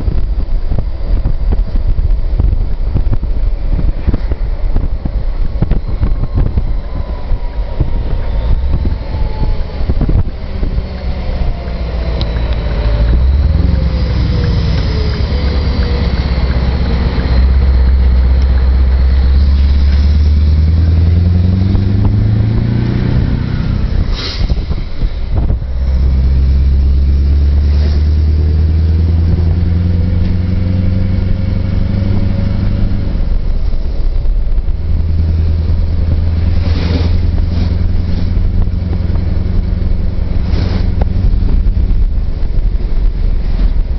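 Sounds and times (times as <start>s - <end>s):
truck diesel engine under load: 0.0s - 43.9s.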